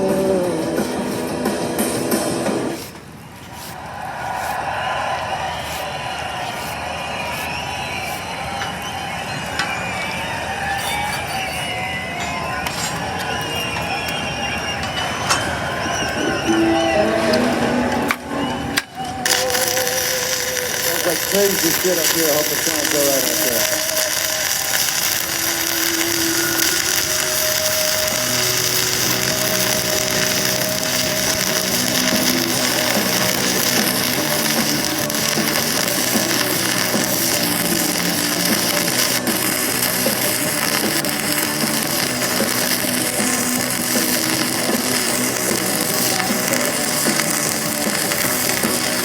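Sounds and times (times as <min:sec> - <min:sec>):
welding arc crackle and hiss: 0:00.0 - 0:16.1, 0:18.8 - 0:49.0.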